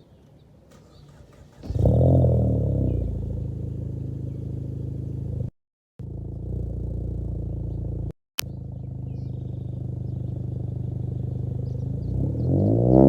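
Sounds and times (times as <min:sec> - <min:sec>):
car engine starting and idling: 0:00.6 - 0:12.8.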